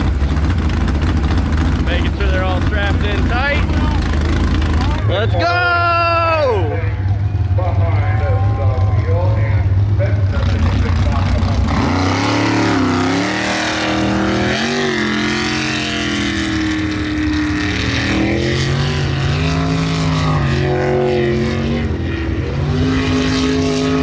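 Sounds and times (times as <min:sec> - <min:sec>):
boat engine running hard: 0:00.0 - 0:07.5, 0:09.6 - 0:24.0.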